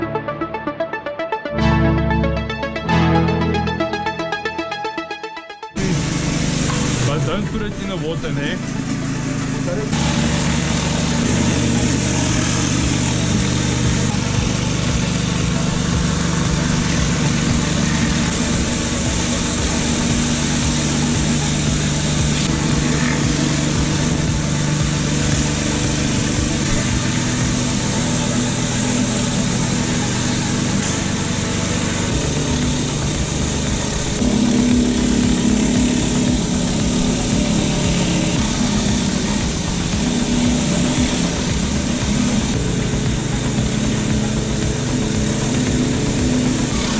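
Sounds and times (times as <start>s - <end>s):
pressure washer engine running: 5.8s - 46.9s
water jet hissing on paving: 5.8s - 46.9s.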